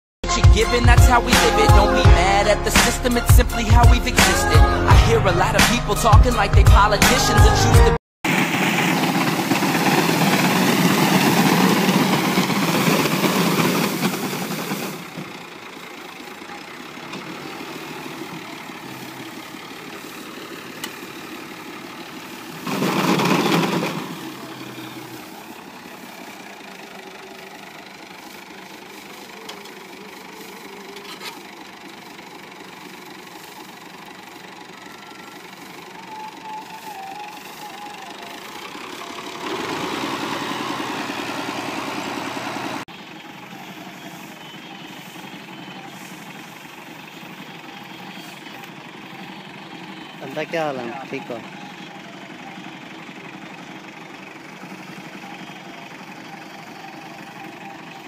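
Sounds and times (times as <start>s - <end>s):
tractor diesel engine running: 0.2s - 58.0s.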